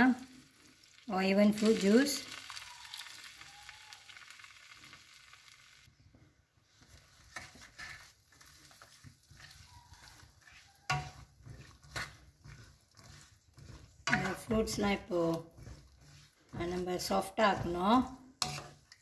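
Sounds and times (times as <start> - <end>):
faint sizzle: 0.0 - 19.0
spatula scraping wok: 0.0 - 19.0
spatula stirring in wok: 0.2 - 19.0.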